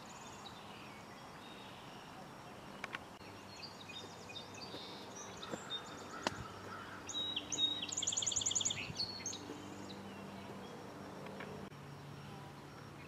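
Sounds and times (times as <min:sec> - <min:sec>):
faint bird calls: 0:00.0 - 0:13.0
sparrow singing trill: 0:00.0 - 0:13.0.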